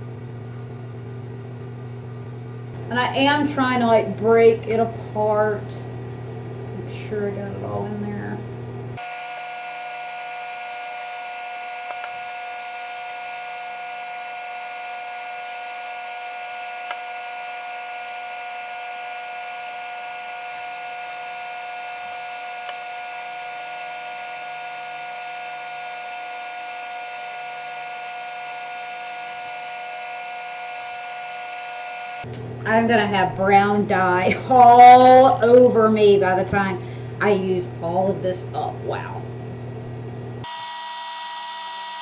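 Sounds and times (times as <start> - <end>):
electronic hum: 0.0 - 42.0.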